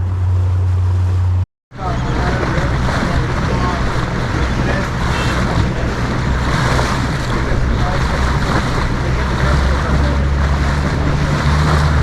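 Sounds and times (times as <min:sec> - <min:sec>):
boat motor running: 0:00.0 - 0:12.0
water rushing past hull: 0:00.0 - 0:12.0
wind buffeting microphone: 0:00.0 - 0:12.0.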